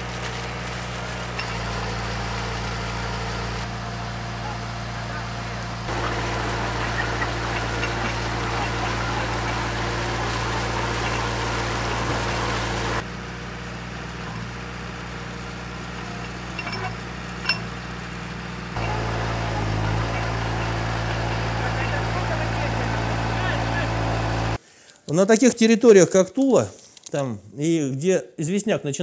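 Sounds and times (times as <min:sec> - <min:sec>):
drilling rig engine humming: 0:00.0 - 0:24.6.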